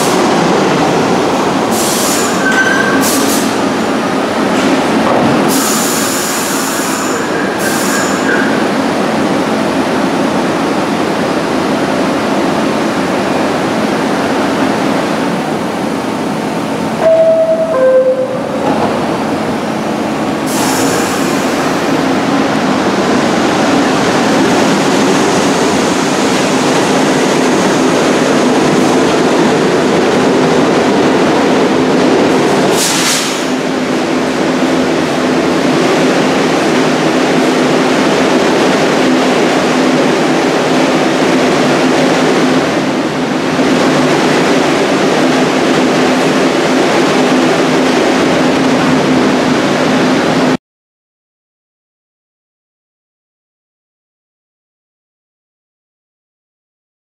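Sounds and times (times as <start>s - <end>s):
train wheels rumbling on rails: 0.0s - 17.7s, 18.3s - 50.6s.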